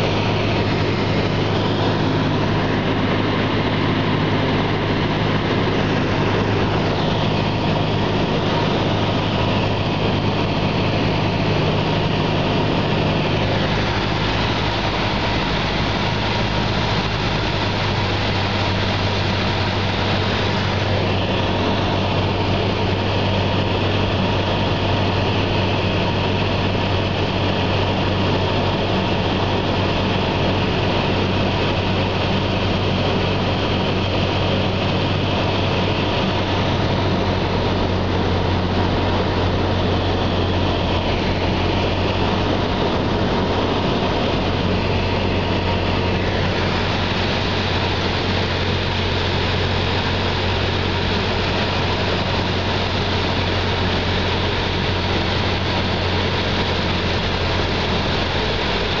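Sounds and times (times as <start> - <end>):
propeller engine droning: 0.0 - 59.0
rushing air: 0.0 - 59.0.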